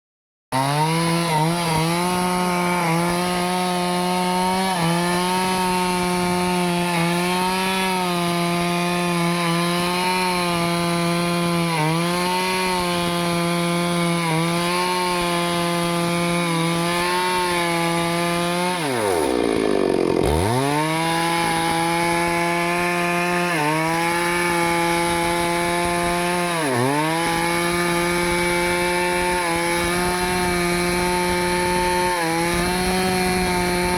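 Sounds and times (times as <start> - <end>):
chainsaw cutting wood: 0.5 - 33.9.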